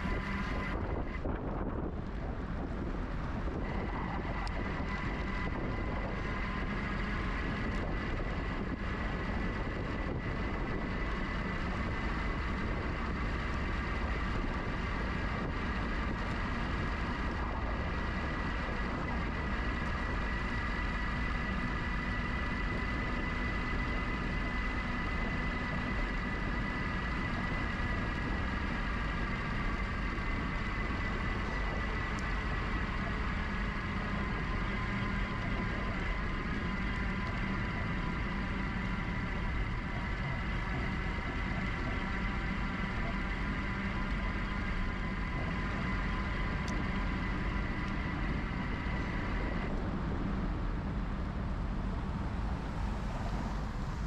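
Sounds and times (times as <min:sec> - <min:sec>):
electric motor whine: 0:00.0 - 0:51.3
road rumble: 0:00.0 - 0:54.0
wind on microphone: 0:00.0 - 0:54.0.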